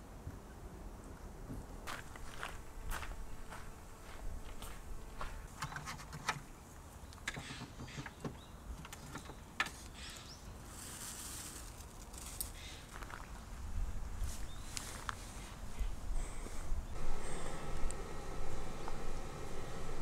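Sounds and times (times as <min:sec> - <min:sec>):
faint outdoor background: 0:00.0 - 0:20.0.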